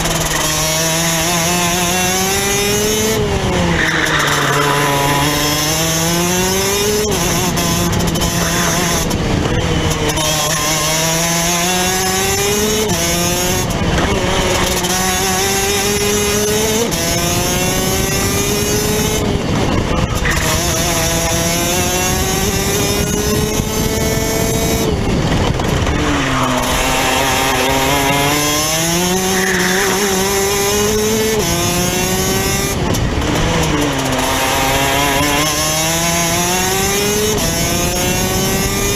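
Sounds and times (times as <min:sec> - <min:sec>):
two-stroke kart engine racing: 0:00.0 - 0:38.9.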